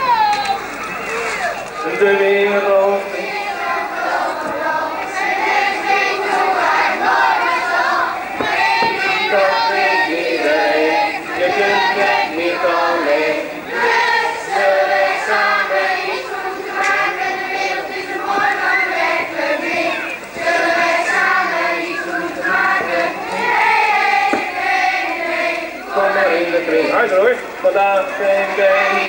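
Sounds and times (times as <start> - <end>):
children singing in unison: 1.8 - 27.1, 27.9 - 29.0.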